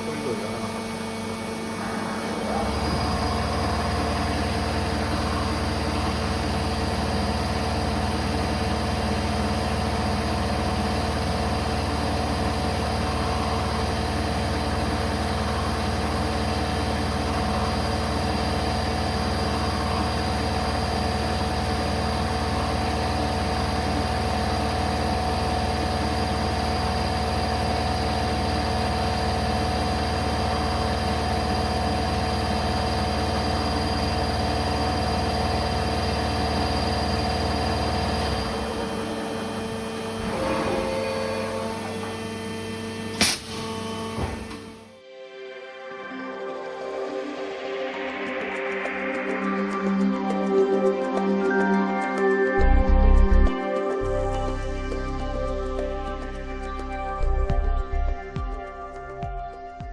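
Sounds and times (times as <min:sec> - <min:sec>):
workshop machine humming with whine: 0:00.0 - 0:59.9.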